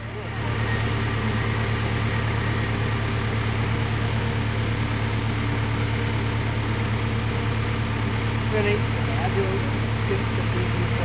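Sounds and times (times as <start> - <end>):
train engine humming: 0.0 - 11.0.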